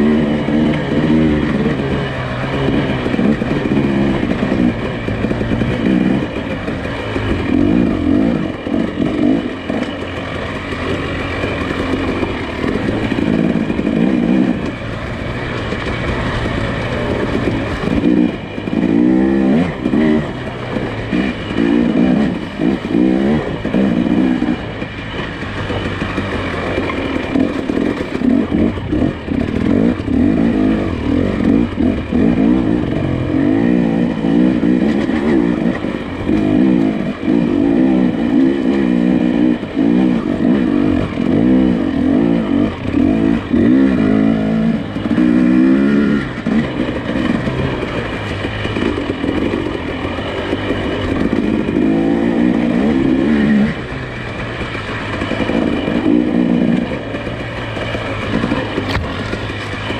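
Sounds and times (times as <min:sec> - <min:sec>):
engine revving off-road: 0:00.0 - 0:59.9.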